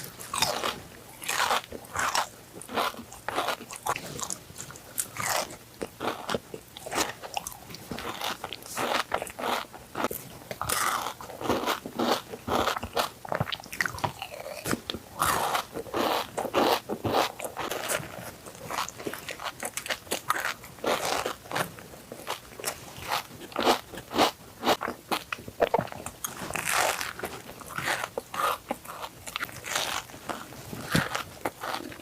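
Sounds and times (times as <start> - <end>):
chocolate bar crunching: 0.0 - 32.0.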